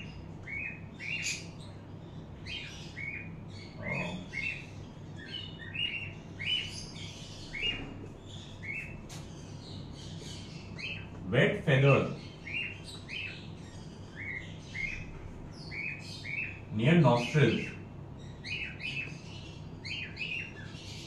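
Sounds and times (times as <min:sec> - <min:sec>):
parrots chirping: 0:00.0 - 0:21.0.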